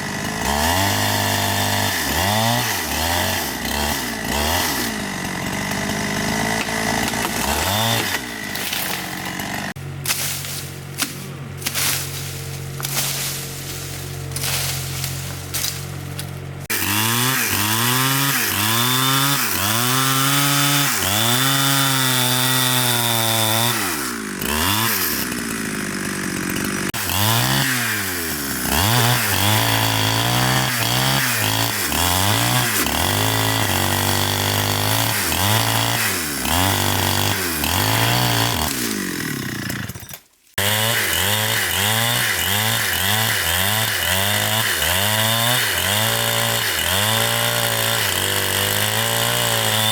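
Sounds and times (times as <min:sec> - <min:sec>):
chainsaw engine revving: 0:00.0 - 0:49.9.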